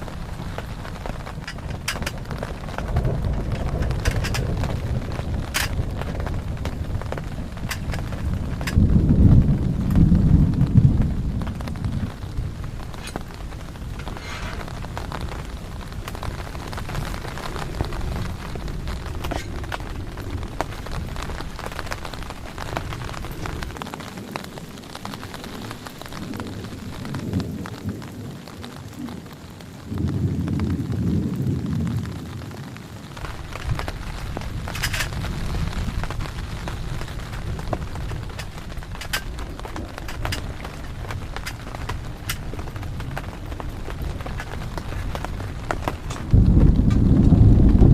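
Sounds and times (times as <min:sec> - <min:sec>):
heavy rain: 0:00.0 - 0:47.9
thunder rumbling: 0:00.0 - 0:47.9.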